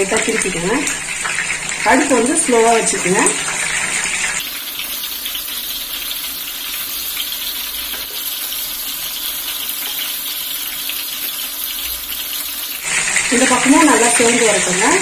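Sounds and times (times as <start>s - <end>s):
prawns sizzling in hot oil: 0.0s - 15.0s.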